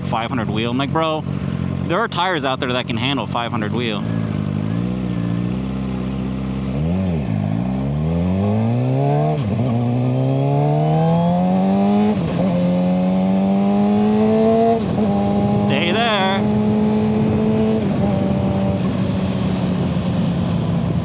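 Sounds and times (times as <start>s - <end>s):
motorcycle engine accelerating: 3.8s - 21.0s.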